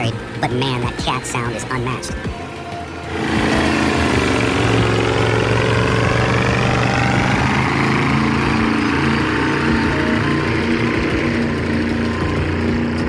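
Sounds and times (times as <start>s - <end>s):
diesel truck engine under load: 2.2s - 13.0s.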